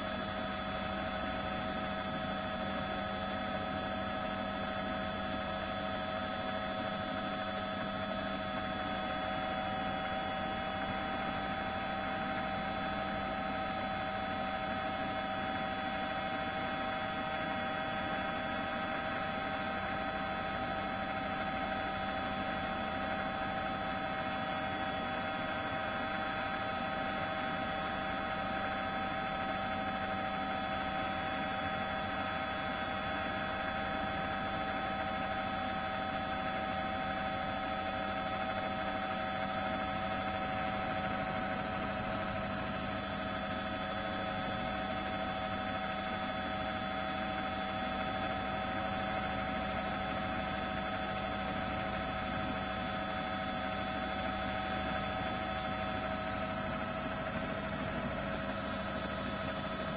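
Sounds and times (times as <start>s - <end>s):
helicopter engine drone: 0.0s - 59.9s.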